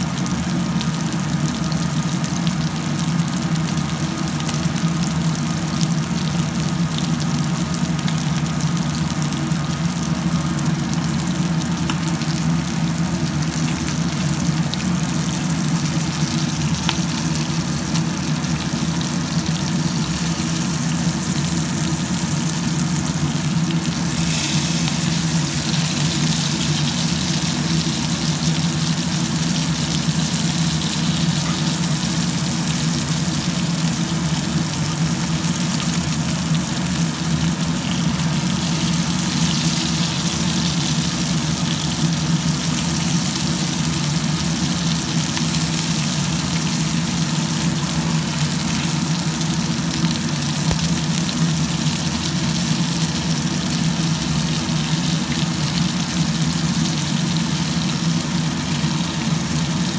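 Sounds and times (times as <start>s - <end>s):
fish sizzling in hot oil: 0.0s - 59.9s
steady low hum: 0.0s - 59.9s.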